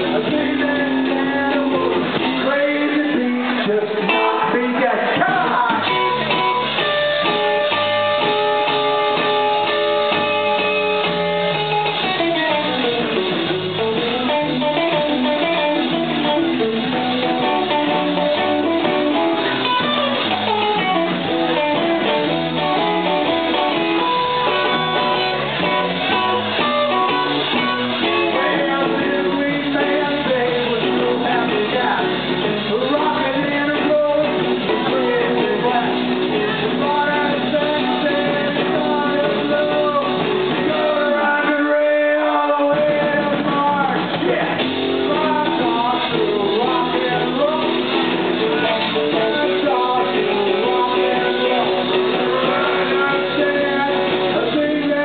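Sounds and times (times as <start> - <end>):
bass guitar: 0.0 - 55.0
drums: 0.0 - 55.0
electric guitar with bends: 0.0 - 55.0.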